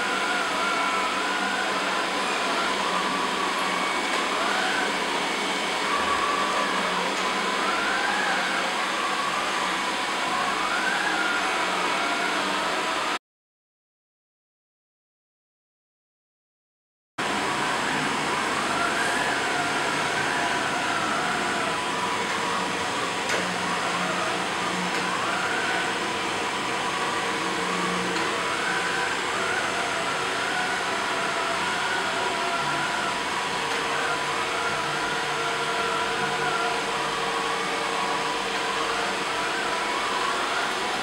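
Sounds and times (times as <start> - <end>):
high wavering whine: 0.0 - 13.2, 17.2 - 41.0.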